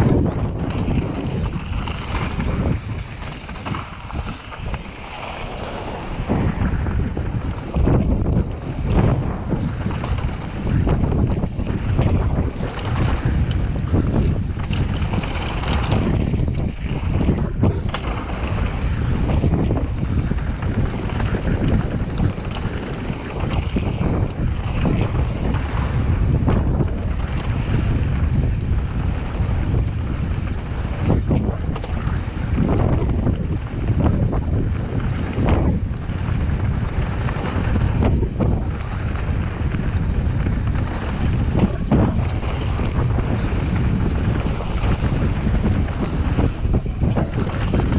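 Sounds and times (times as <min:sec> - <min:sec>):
bike clattering over stones: 0:00.0 - 0:47.9
wind rumbling on microphone: 0:00.0 - 0:47.9.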